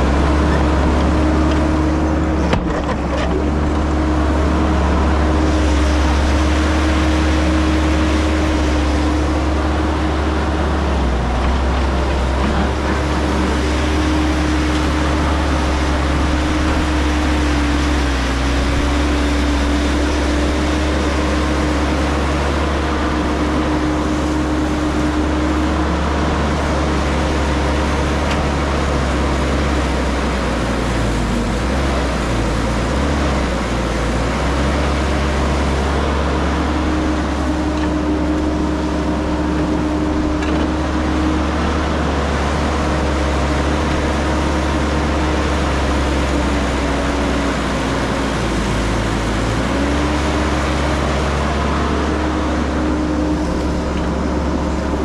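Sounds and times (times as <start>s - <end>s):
excavator diesel engine rumble: 0.0s - 55.0s
hydraulic whine: 0.0s - 55.0s.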